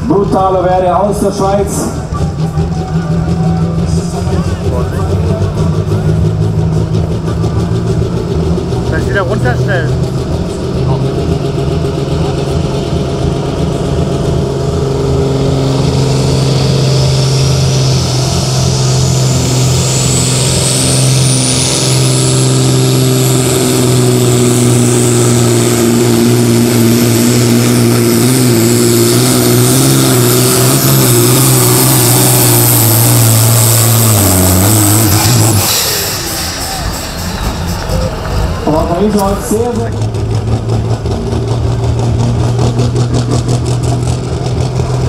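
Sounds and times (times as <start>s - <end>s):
tractor engine under load: 0.0s - 45.0s
turbo whine: 0.0s - 45.0s.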